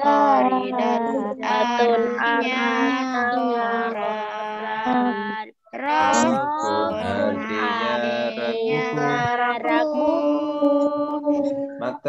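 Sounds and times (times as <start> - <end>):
voices singing together: 0.0 - 12.0.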